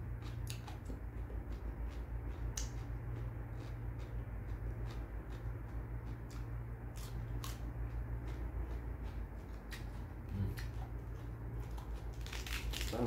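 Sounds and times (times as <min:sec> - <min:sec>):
lettuce crunching: 0:00.0 - 0:13.0
low hum: 0:00.0 - 0:13.0.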